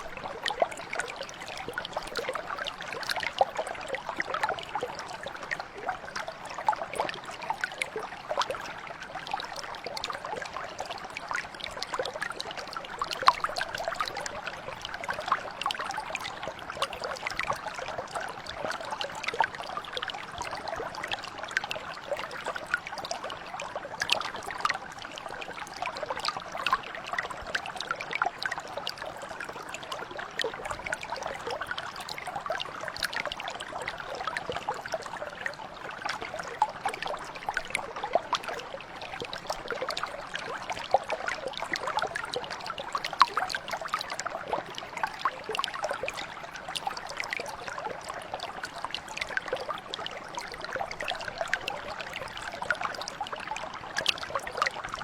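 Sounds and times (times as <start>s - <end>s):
brook flowing over stones: 0.0s - 55.0s.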